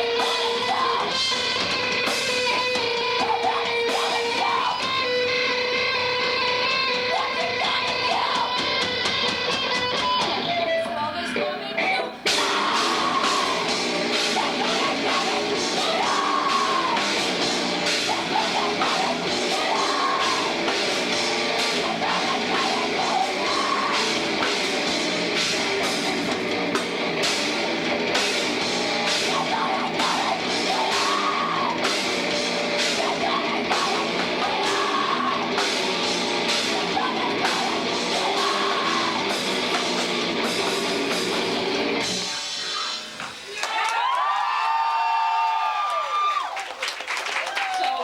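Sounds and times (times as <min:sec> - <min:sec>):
pounding drum kit: 0:00.0 - 0:10.7, 0:12.2 - 0:42.6
heavy rock band playing: 0:00.0 - 0:11.0, 0:12.2 - 0:43.0.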